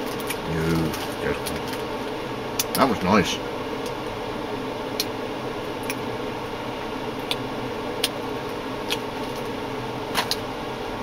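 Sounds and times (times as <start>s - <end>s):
fan-like room hum: 0.0s - 11.0s.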